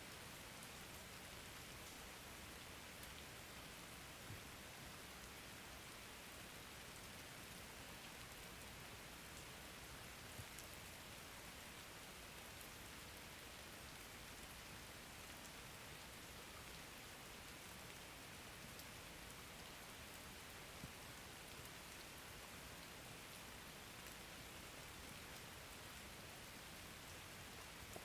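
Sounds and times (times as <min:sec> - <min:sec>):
faint steady rain: 0:00.0 - 0:28.0.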